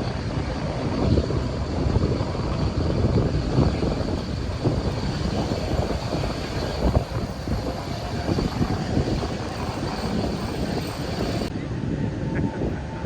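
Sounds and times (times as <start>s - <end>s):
aircraft engine rumble: 0.0s - 13.0s.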